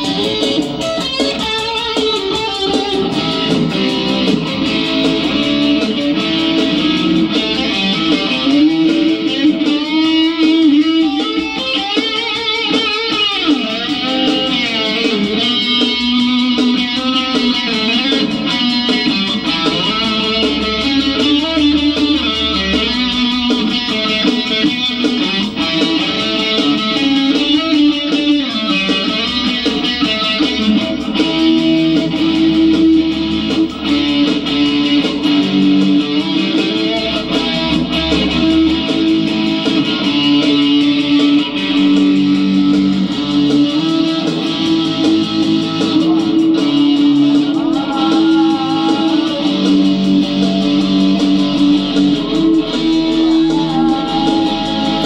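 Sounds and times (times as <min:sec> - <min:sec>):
electric guitar playing: 0:00.0 - 0:55.0.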